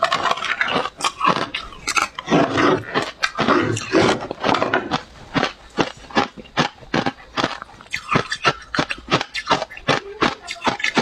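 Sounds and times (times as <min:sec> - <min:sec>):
chewing ice crunches: 0:00.0 - 0:11.0.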